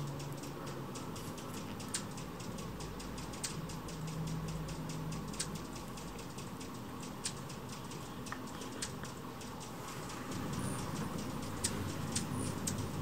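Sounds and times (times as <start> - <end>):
faint ticks: 0.0 - 13.0
hummingbird chip notes: 0.0 - 13.0
steady background hiss: 0.0 - 13.0.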